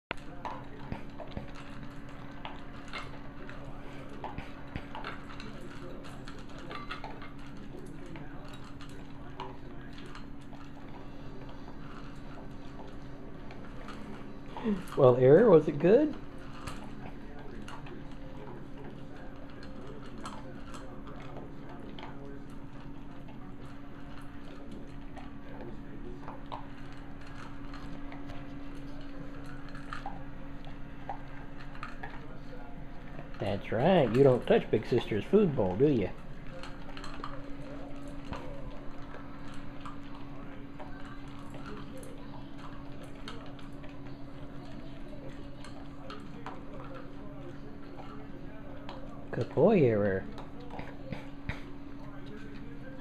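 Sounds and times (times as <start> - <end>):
dogs chewing: 0.1 - 53.0
steady low hum: 0.1 - 53.0.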